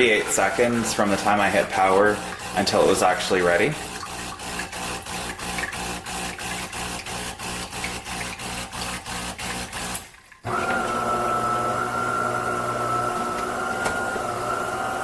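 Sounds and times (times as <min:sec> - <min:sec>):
espresso machine pulsing: 0:00.0 - 0:15.0.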